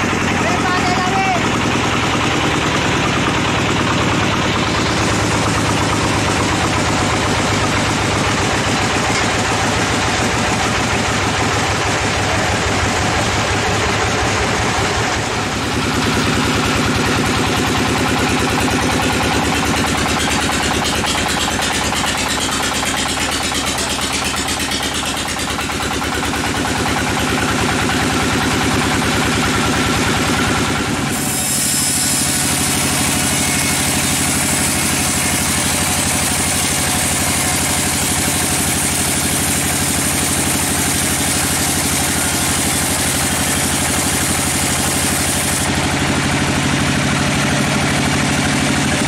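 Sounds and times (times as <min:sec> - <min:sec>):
sawmill machinery droning: 0:00.0 - 0:49.0.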